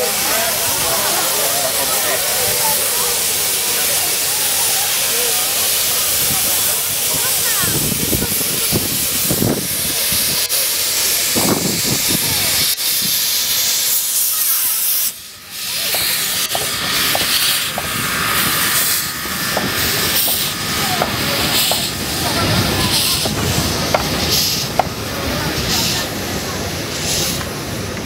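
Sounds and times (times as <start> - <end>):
steam locomotive hissing: 0.0 - 28.0.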